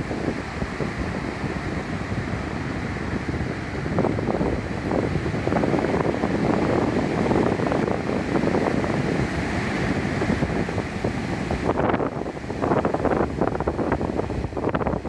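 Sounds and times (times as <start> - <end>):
heavy surf rushing: 0.0 - 15.0
strong wind buffeting microphone: 0.0 - 15.0.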